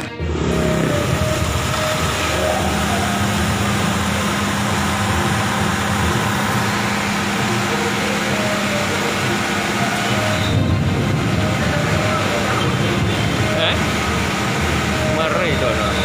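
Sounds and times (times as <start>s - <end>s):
heavy rain pouring: 0.3s - 16.0s.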